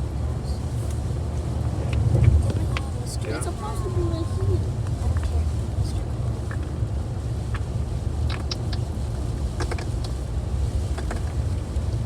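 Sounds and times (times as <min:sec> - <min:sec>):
road rumble inside moving car: 0:00.0 - 0:12.0.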